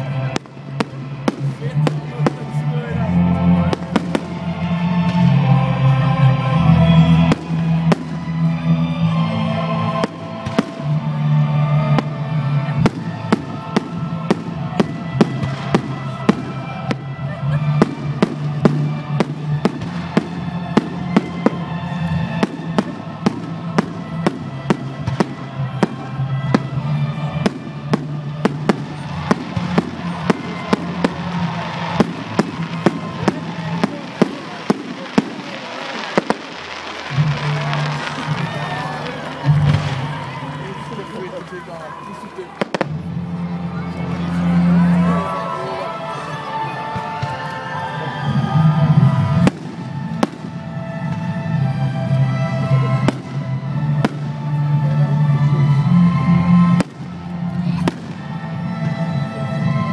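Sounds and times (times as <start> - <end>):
fireworks bursting with sharp bangs: 0.0 - 6.0, 6.6 - 9.0, 9.7 - 41.5, 42.4 - 45.1, 46.5 - 59.7
fireworks crackling: 0.0 - 59.9
music track: 0.0 - 59.9.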